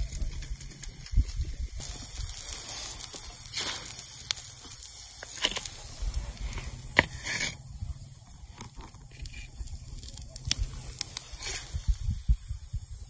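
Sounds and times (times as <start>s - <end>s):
food sizzling on hot stone: 0.0s - 13.0s.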